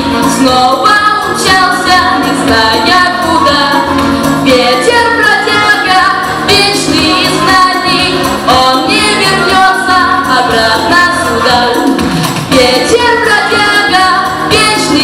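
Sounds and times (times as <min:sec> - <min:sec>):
backing track: 0:00.0 - 0:15.0
women singing pop song: 0:00.0 - 0:15.0.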